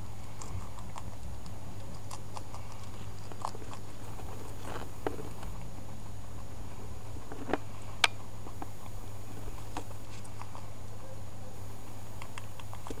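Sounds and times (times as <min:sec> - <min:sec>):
guinea pig biting leaves: 0:00.0 - 0:11.0, 0:11.8 - 0:13.0
steady low hum: 0:00.0 - 0:13.0.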